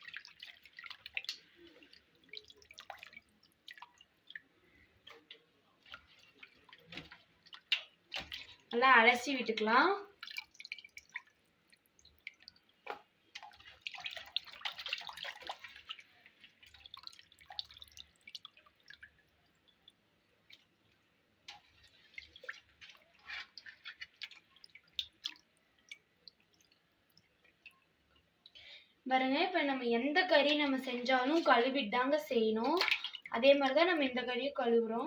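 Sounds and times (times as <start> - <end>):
water splashing and sloshing: 0.0 - 28.6, 30.2 - 35.0.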